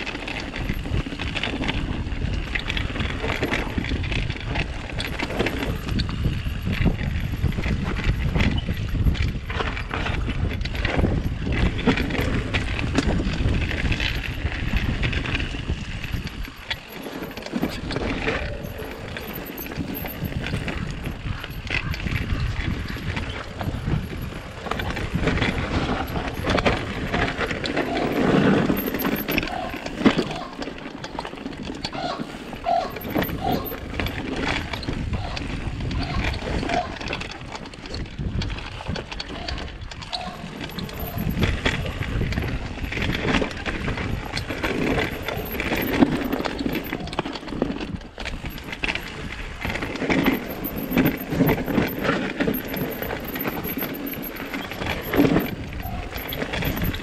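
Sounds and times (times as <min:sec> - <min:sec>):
bike rattling over rough trail: 0:00.0 - 0:57.0.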